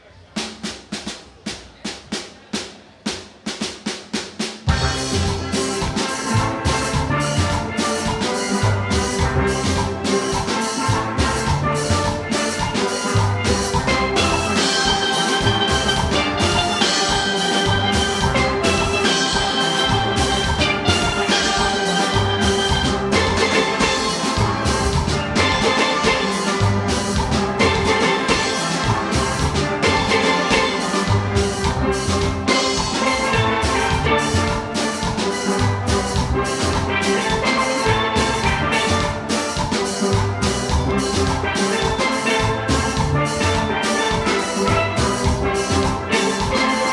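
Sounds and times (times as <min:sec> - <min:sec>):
drum kit beat: 0:00.4 - 0:46.9
steelpans playing melody: 0:04.7 - 0:46.9.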